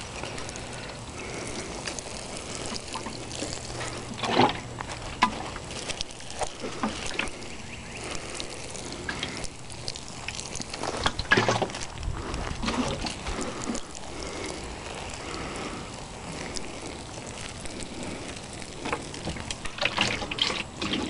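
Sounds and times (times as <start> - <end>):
water pouring onto grass: 0.0 - 21.0.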